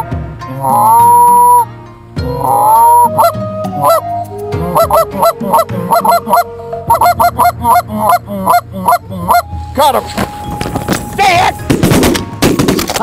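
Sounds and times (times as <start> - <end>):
geese honking: 0.0 - 1.6, 2.4 - 11.5.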